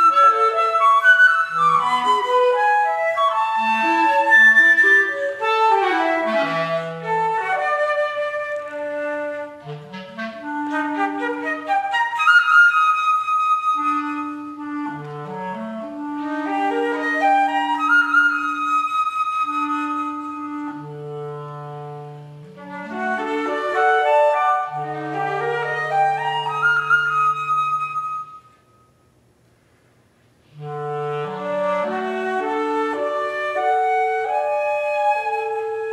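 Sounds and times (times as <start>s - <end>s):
clarinet: 0.0s - 29.1s, 30.4s - 35.9s
flute: 0.0s - 29.1s, 30.5s - 35.9s.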